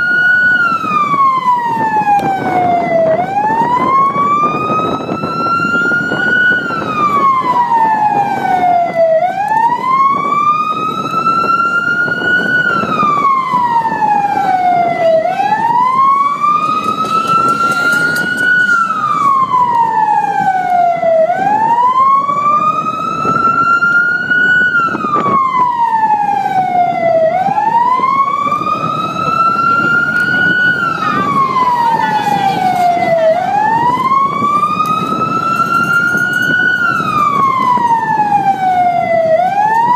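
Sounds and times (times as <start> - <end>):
engine and road noise: 0.0 - 39.9
vehicle siren wailing: 0.0 - 39.9.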